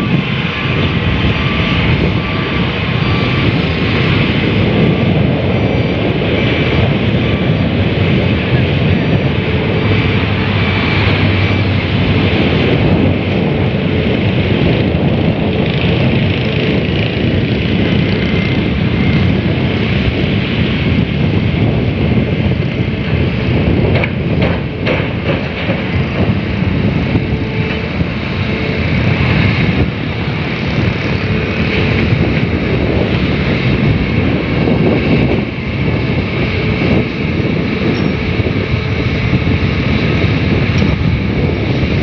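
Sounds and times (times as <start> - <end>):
diesel engines running: 0.0 - 42.0.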